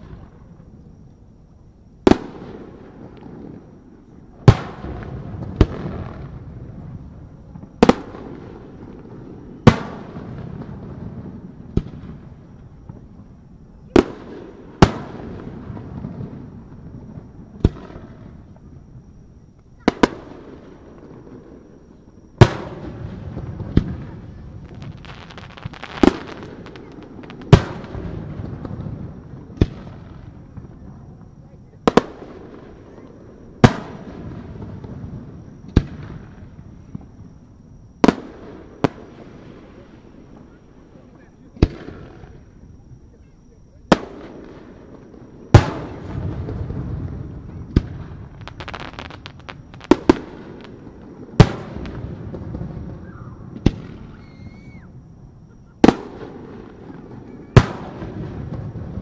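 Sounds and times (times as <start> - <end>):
fireworks bursting with rumble: 0.0 - 59.0.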